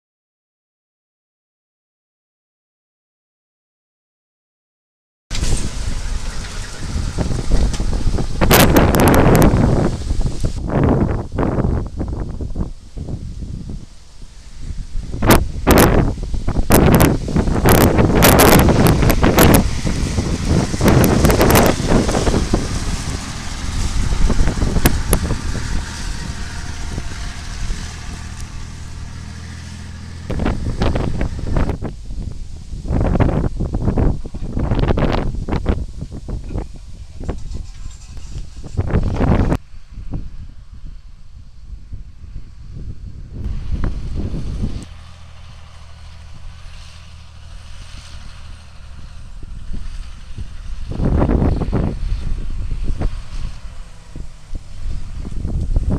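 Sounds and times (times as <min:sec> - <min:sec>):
diesel truck driving off: 0:05.3 - 0:55.9
wind buffeting microphone: 0:05.3 - 0:55.9.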